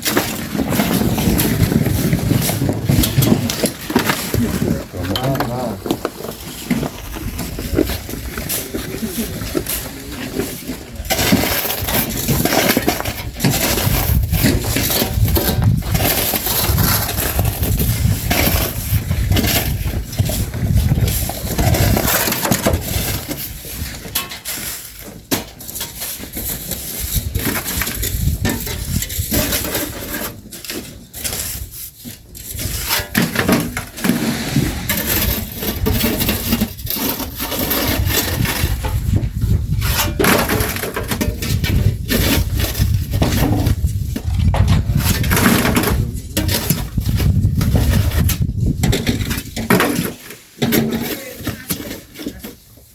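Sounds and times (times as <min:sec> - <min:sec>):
shovels scraping sand: 0:00.0 - 0:52.9.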